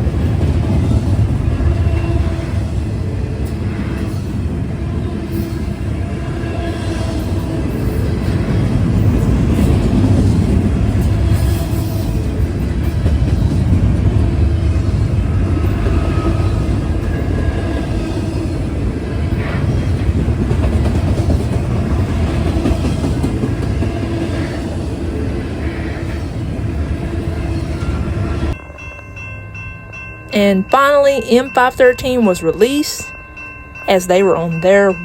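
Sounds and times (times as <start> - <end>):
train rumbling on rails: 0.0 - 28.8.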